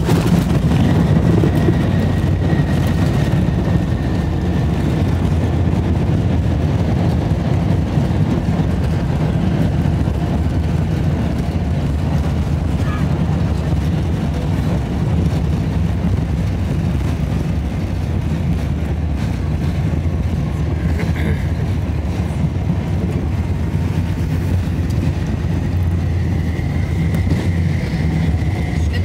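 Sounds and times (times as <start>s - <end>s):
low rumble of engines and wheels: 0.0s - 29.0s.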